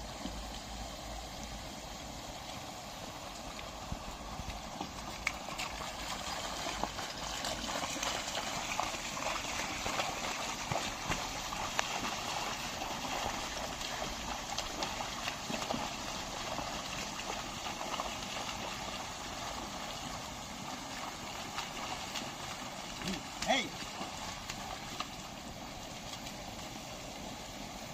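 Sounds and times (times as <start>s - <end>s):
splashing through water and mud: 3.2s - 27.9s.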